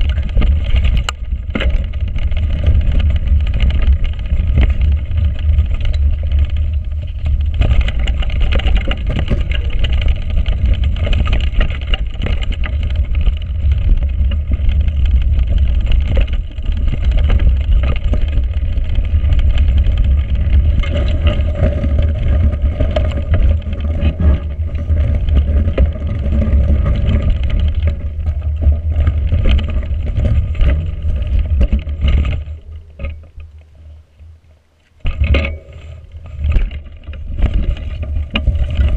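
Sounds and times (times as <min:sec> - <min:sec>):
bike knocks and rattles: 0:00.0 - 0:33.7, 0:35.0 - 0:38.9
bike tyres rolling over ground: 0:00.0 - 0:38.9.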